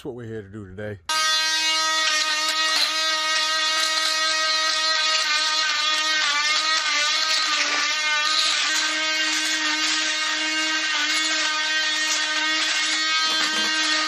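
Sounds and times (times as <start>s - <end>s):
power tool motor whining: 1.1s - 14.0s.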